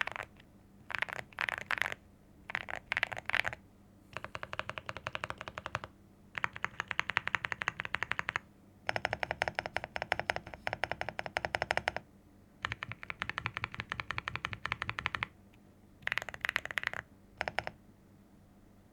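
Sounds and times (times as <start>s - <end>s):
mechanical keyboard typing: 0.0s - 12.0s, 12.6s - 15.3s, 16.0s - 17.8s.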